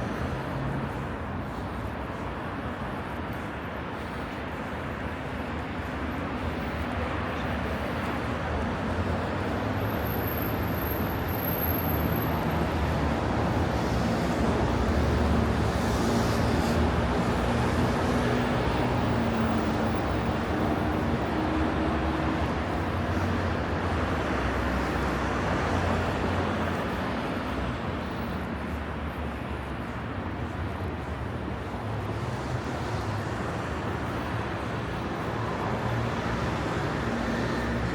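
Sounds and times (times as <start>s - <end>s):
road traffic: 0.0s - 37.9s.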